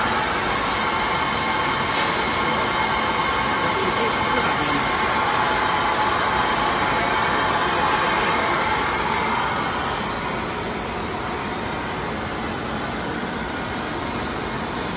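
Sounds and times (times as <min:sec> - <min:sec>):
machine whirring: 0:00.0 - 0:14.9.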